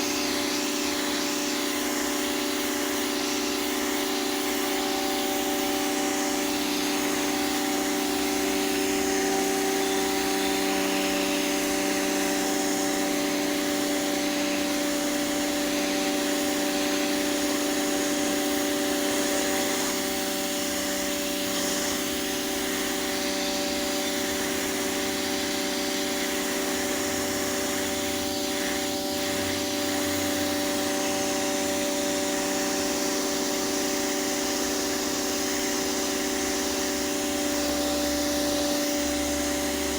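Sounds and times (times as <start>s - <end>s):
pressure washer motor humming: 0.0s - 39.9s.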